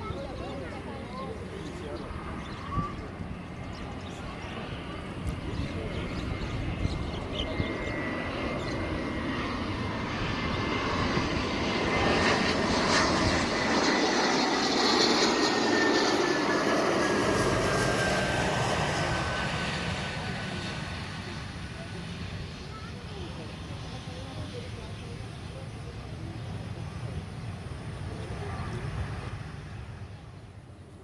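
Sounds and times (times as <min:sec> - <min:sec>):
jet engine noise: 0:00.0 - 0:31.0.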